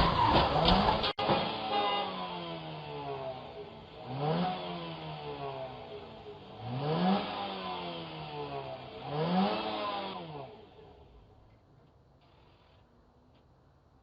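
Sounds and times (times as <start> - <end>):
vehicle engine revving: 0.0 - 11.3.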